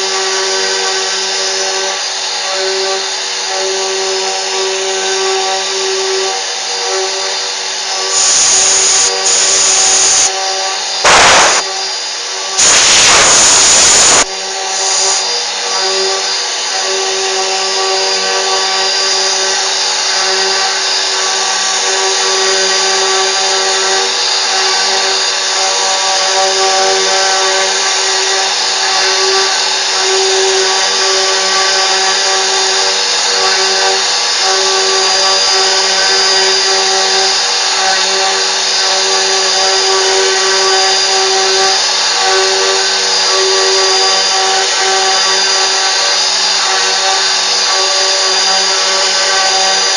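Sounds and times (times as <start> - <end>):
router spindle motor whining: 0.0 - 49.9.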